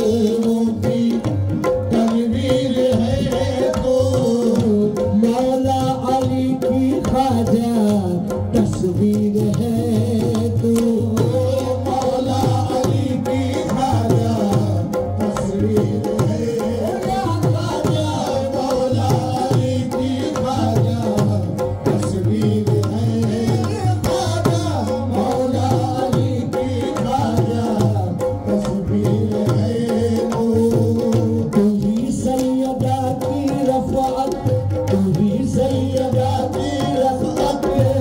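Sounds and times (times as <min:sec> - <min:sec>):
tabla fast rhythm: 0:00.0 - 0:38.0.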